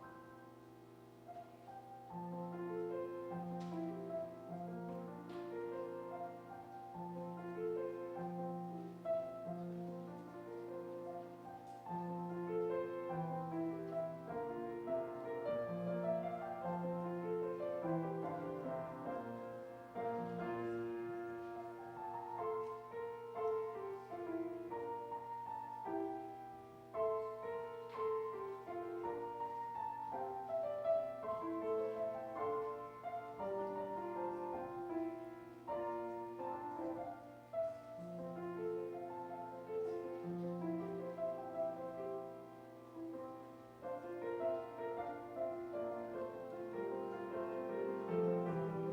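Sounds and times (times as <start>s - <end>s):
slow keyboard music: 0.0s - 48.9s.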